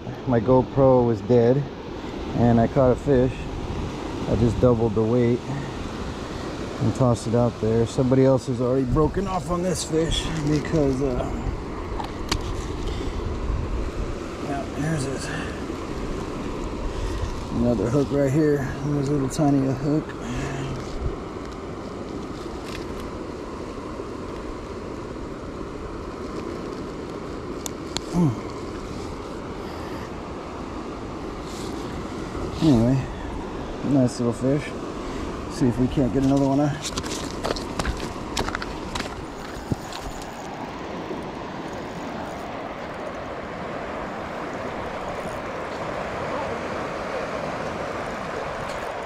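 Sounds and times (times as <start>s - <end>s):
fast-flowing water rushing: 0.0s - 26.1s, 26.7s - 49.0s.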